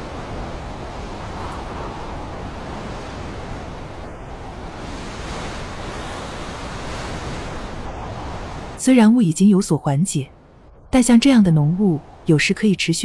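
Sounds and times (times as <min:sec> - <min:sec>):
steady rushing wind: 0:00.0 - 0:13.0.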